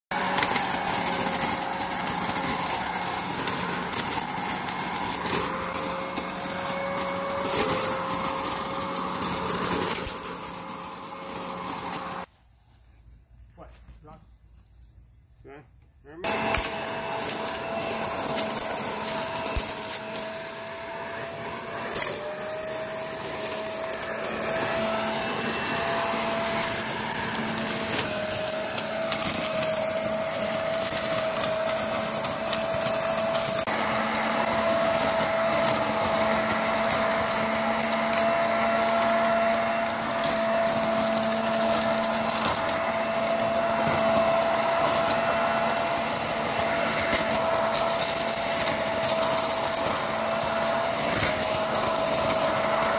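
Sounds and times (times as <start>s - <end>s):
leaf vacuum motor whining: 0.0s - 12.3s, 16.1s - 52.9s
leaves rattling through tube: 0.1s - 12.3s, 16.2s - 52.9s.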